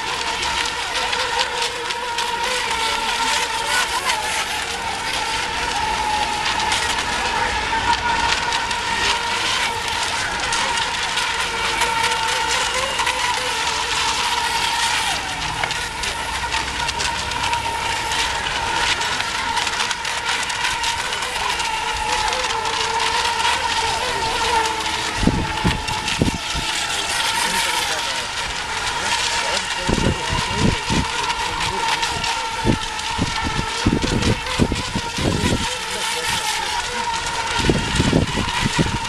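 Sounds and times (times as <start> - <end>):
crackling hiss: 0.0 - 39.0
high motor whine: 0.0 - 39.0.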